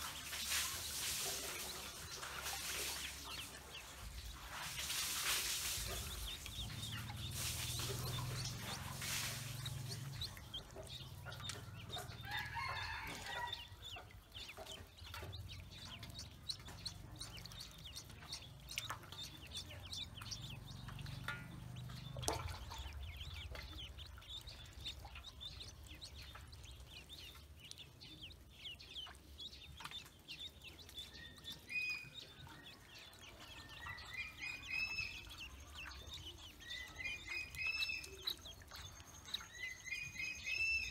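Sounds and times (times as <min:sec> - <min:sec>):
ducklings paddling in water: 0:00.0 - 0:40.9
ducklings peeping: 0:00.0 - 0:40.9.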